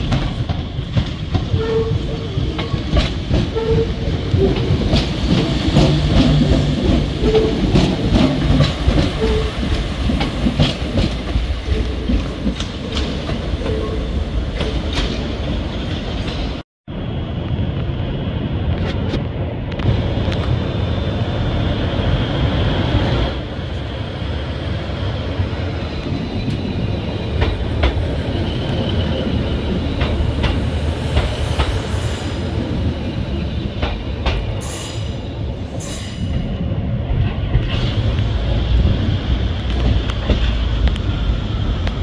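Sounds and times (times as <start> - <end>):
diesel train engine rumble: 0.0 - 42.0.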